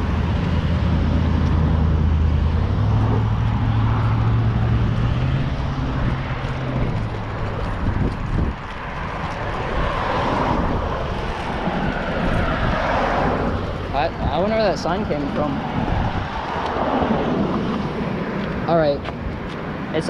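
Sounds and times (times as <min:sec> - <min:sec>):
outdoor noise: 0:00.0 - 0:20.0
vehicle engine humming: 0:00.0 - 0:20.0.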